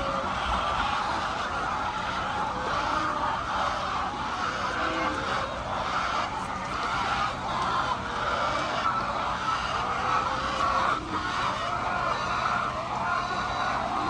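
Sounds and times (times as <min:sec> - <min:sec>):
chickens clucking and squawking: 0:00.0 - 0:14.0.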